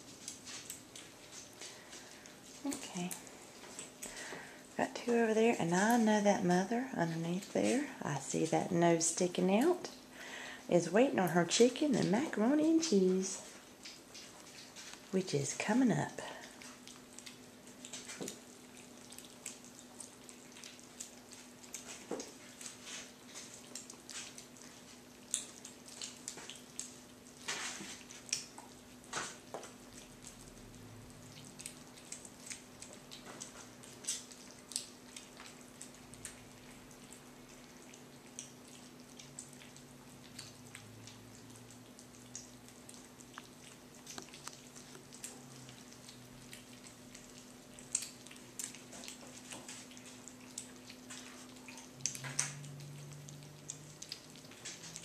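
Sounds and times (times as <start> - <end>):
kittens smacking and lapping food: 0.0 - 55.0.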